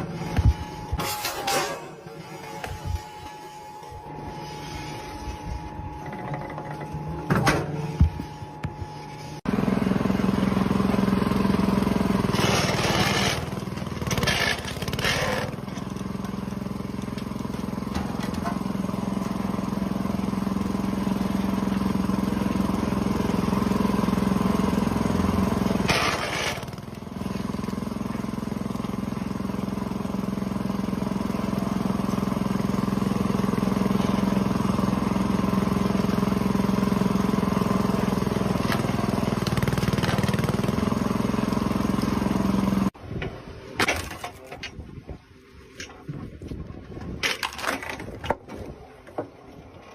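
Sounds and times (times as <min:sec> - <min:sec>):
engine running steadily: 0:00.0 - 0:45.0.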